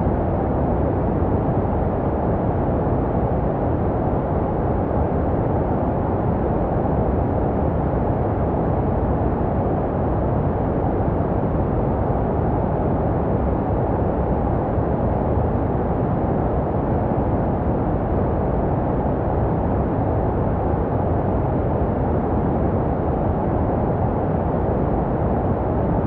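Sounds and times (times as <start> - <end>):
muffled white noise: 0.0 - 26.0.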